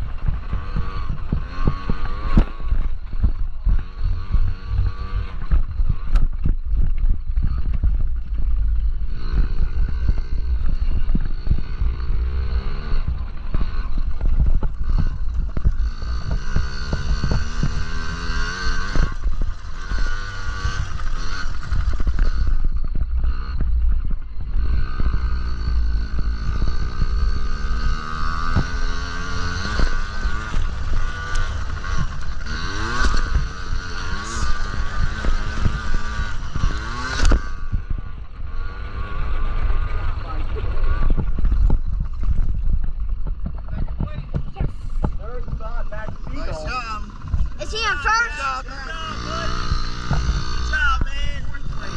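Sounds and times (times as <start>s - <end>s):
minibike engines buzzing: 0.0s - 51.9s
steady low rumble: 0.0s - 51.9s.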